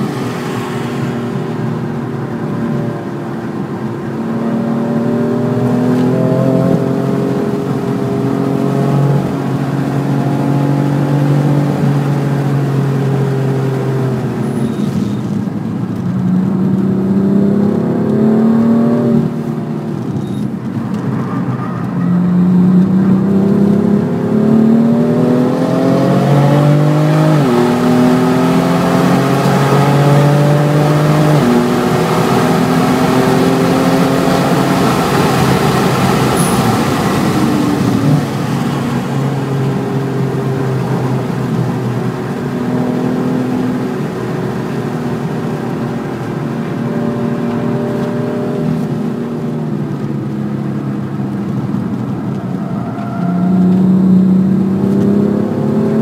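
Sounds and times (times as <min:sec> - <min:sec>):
car engine accelerating: 0:00.0 - 0:14.4, 0:15.3 - 0:56.0.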